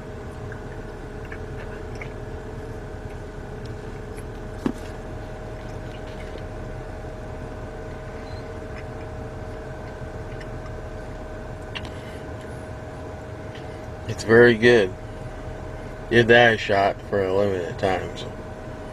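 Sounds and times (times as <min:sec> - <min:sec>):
machine hum with tones: 0:00.0 - 0:18.9.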